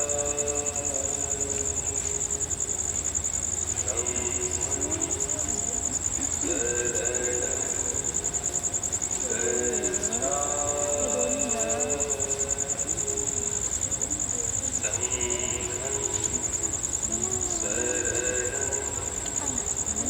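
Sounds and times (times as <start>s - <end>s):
crickets chirring: 0.0s - 20.0s
faint human voices: 0.0s - 20.0s.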